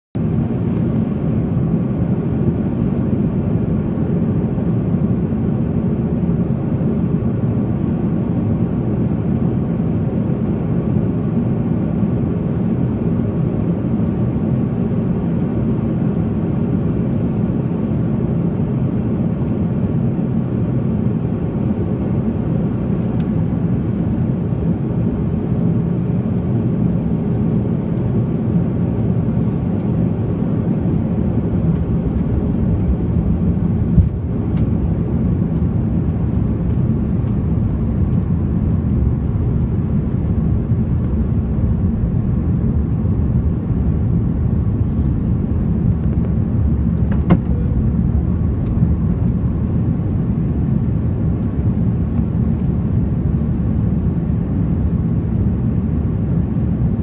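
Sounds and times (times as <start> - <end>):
airliner cabin drone: 0.2 - 57.0.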